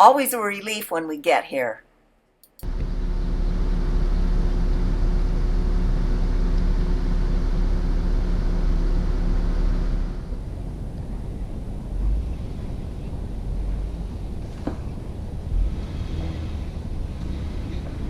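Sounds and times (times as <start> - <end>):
truck engine and road noise: 2.6 - 18.0.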